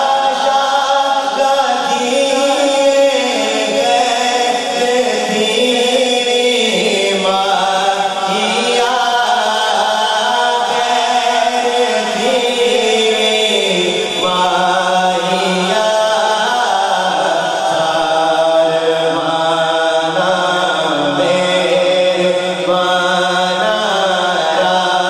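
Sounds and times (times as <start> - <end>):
man singing into microphone: 0.0 - 25.0.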